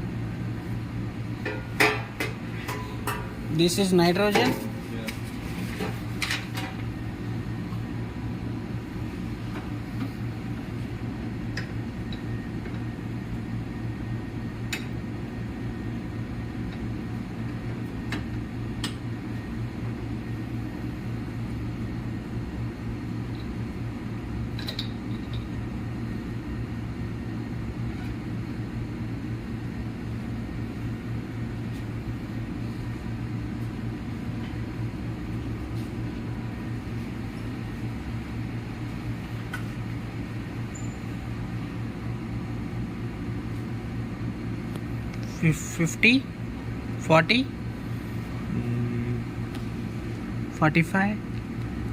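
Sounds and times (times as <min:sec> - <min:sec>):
low electrical hum with fan: 0:00.0 - 0:51.9.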